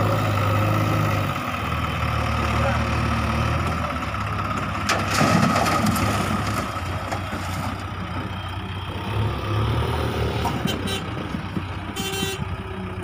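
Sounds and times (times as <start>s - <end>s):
diesel engines throbbing: 0.0s - 13.0s.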